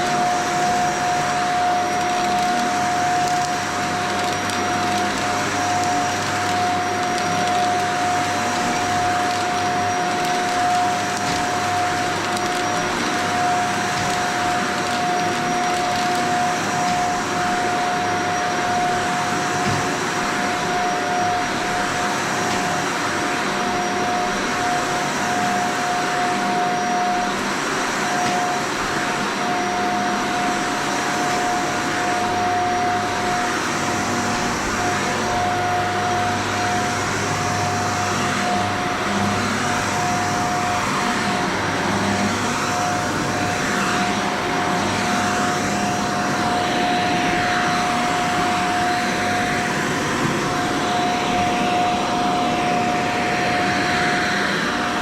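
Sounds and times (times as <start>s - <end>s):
vacuum cleaner running over carpet: 0.0s - 55.0s.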